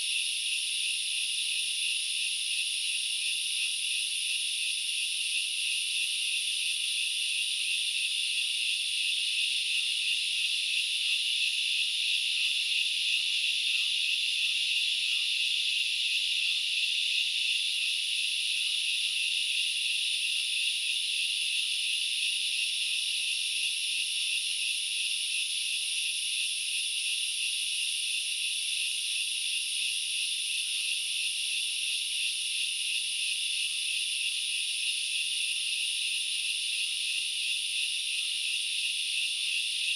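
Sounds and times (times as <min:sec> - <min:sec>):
forest insects buzzing: 0:00.0 - 0:39.9.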